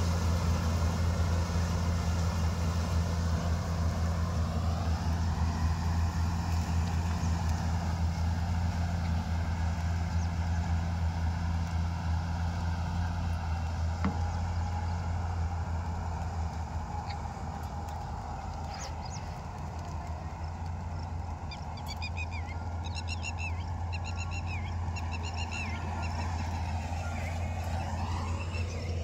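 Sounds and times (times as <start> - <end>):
harvester engine droning: 0.0 - 29.0.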